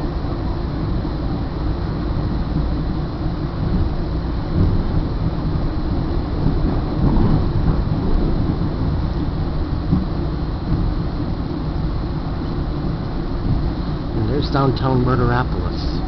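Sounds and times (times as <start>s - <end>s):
train rumbling from inside coach: 0.0s - 16.0s.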